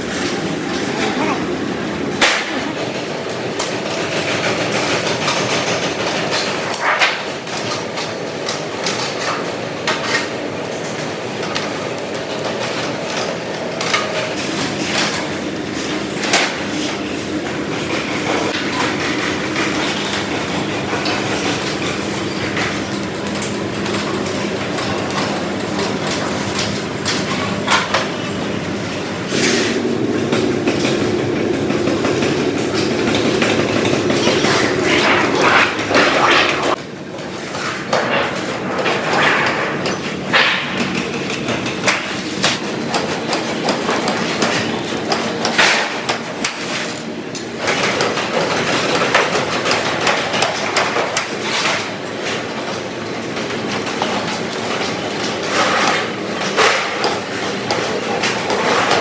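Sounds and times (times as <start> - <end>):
factory machinery running: 0.0 - 59.0.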